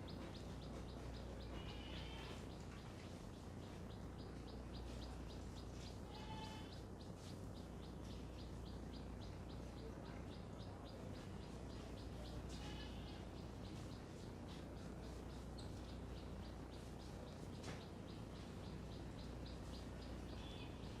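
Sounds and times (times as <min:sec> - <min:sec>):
birds chirping: 0:00.0 - 0:21.0
low steady hum: 0:00.0 - 0:21.0.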